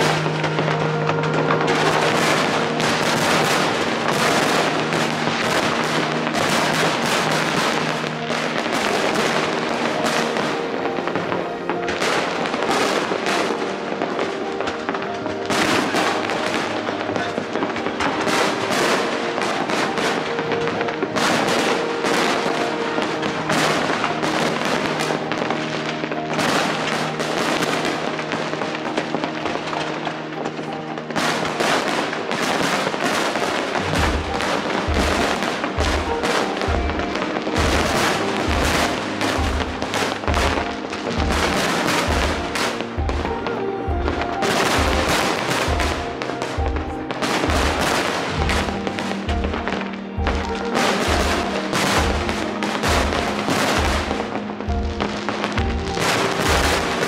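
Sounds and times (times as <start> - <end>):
fireworks bangs and crackles: 0.0 - 57.0
sustained musical tones: 0.0 - 57.0.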